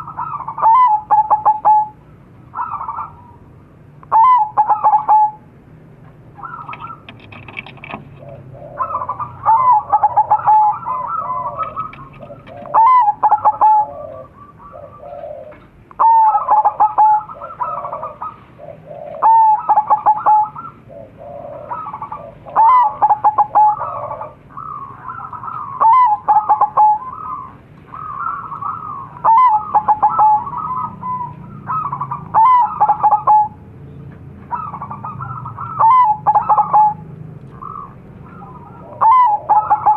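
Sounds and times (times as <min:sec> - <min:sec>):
doves cooing: 0:00.0 - 0:05.5, 0:06.2 - 0:33.7, 0:34.3 - 0:39.9.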